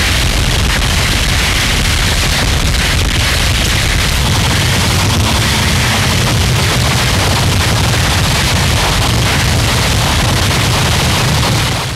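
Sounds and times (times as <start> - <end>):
harsh distorted static noise music: 0.0 - 11.9.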